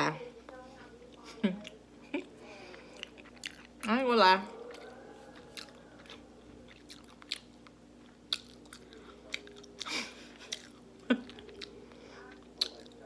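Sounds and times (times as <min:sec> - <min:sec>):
person chewing food: 0:01.1 - 0:03.9, 0:04.5 - 0:13.0.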